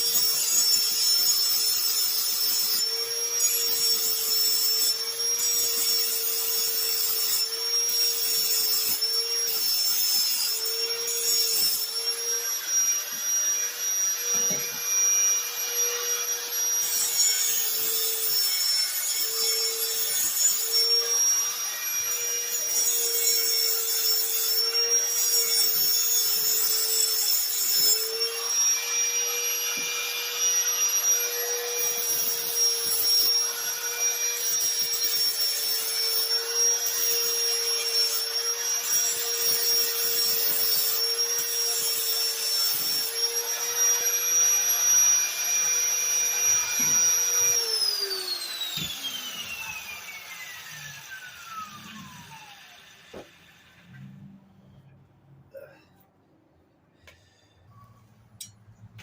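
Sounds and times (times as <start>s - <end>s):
power tool whining: 0.0s - 55.8s.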